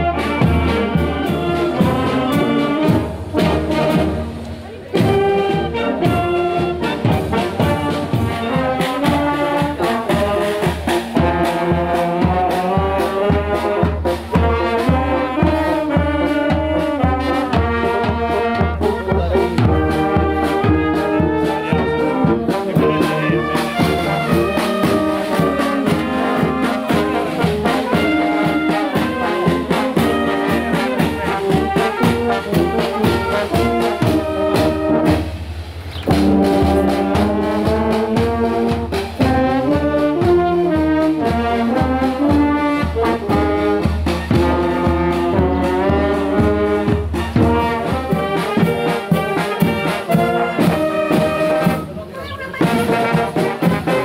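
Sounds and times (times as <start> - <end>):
brass band playing march: 0.0 - 54.0
steady drum beat: 0.0 - 54.0.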